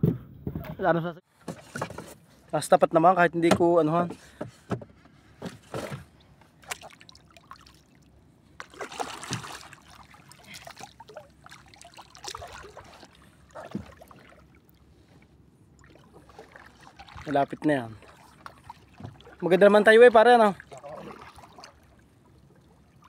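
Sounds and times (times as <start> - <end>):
water lapping against boat hull: 3.4 - 23.0.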